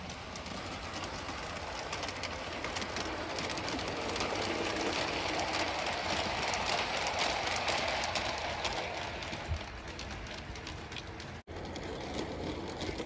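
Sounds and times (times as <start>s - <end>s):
model train wheels rumbling: 0.0s - 13.0s.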